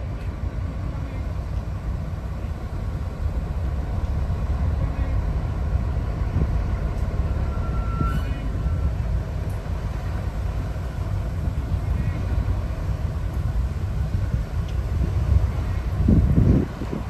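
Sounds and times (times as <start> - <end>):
diesel locomotive engine rumbling: 0.0 - 17.0.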